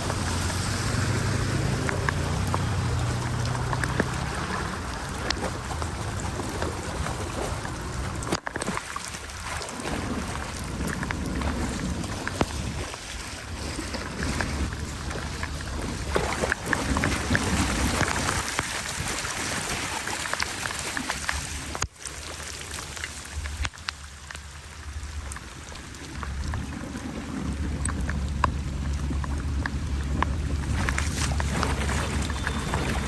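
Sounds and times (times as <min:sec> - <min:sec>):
small water splashes: 0:00.0 - 0:33.0
water running into a storm drain: 0:00.0 - 0:33.0
wind rumbling on microphone: 0:00.0 - 0:33.0.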